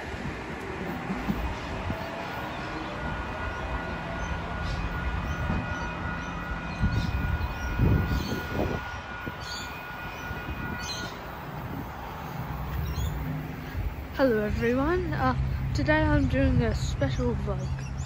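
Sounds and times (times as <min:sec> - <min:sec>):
electric train motors whining: 0:00.0 - 0:15.7
low train rumble: 0:00.0 - 0:18.0.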